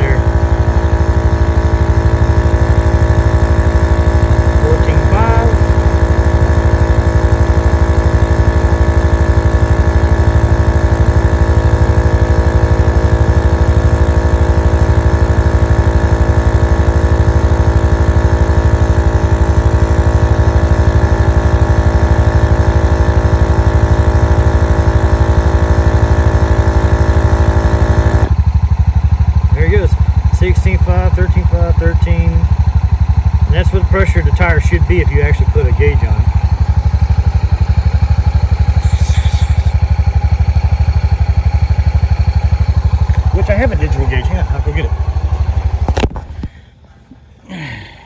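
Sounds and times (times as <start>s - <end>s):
air compressor running: 0.0s - 48.0s
idling engine rumble: 0.0s - 48.0s.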